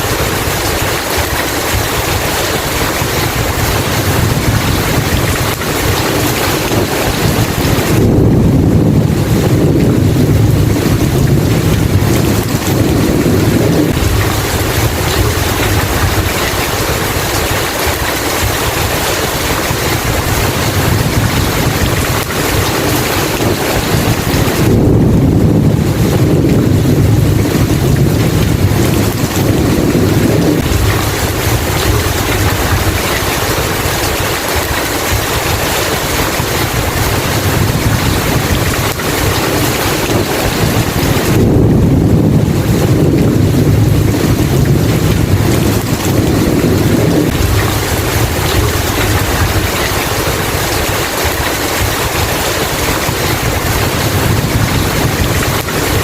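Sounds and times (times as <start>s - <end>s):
heavy rain hissing: 0.0s - 56.0s
thunder rumbling: 0.0s - 56.0s.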